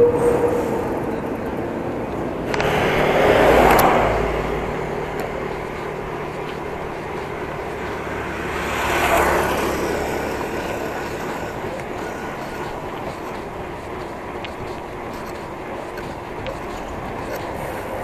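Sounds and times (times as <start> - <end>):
steady road noise: 0.0 - 18.0
vehicle passing: 0.0 - 18.0.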